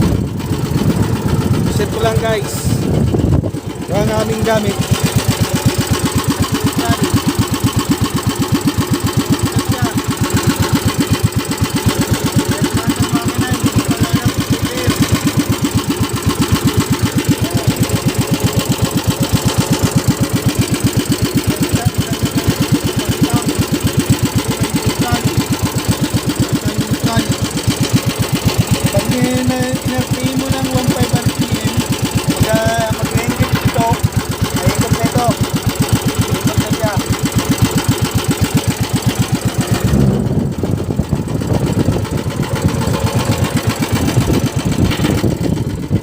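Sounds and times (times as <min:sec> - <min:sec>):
boat engine knocking steadily: 0:00.0 - 0:46.0.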